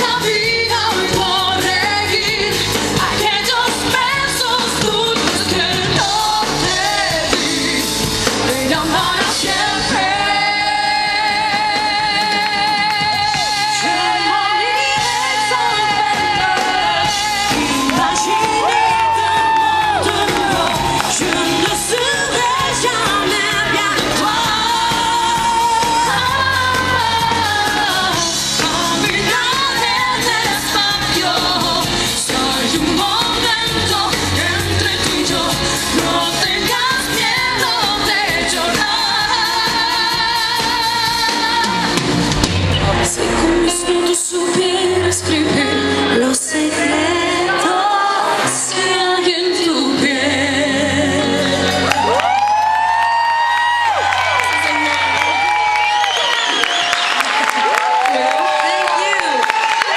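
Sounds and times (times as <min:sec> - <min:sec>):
women singing a pop duet: 0:00.0 - 0:56.5
band with drums and keyboards: 0:00.0 - 0:59.9.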